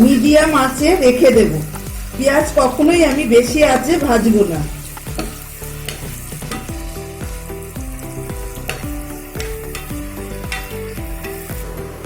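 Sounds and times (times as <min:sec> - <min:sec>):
ladle stirring and clicking on pan: 0:00.0 - 0:12.0
onions sizzling in hot oil: 0:00.0 - 0:12.0.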